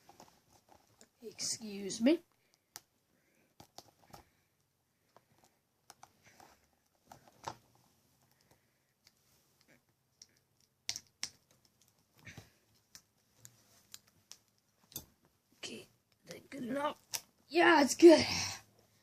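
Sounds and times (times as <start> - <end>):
faint clicks and taps of small objects: 0.0 - 1.5, 2.2 - 16.4.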